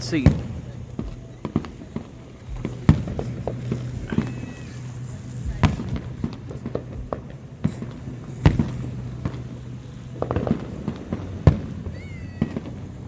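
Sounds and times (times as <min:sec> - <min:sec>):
fireworks bangs: 0:00.0 - 0:13.0
low hum: 0:00.0 - 0:13.0
small firework pops: 0:00.0 - 0:13.0.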